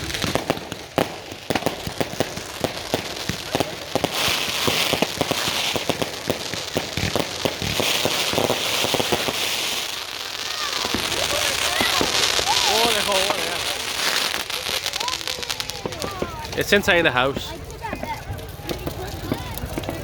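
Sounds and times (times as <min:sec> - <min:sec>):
fireworks bangs and pops: 0:00.0 - 0:20.0
fireworks crackling hiss: 0:00.0 - 0:20.0.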